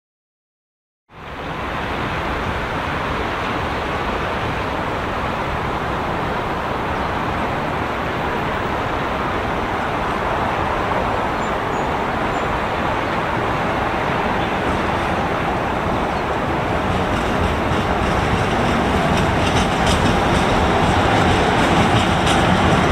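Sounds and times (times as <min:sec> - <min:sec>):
train wheels on rails: 0:02.1 - 0:22.9.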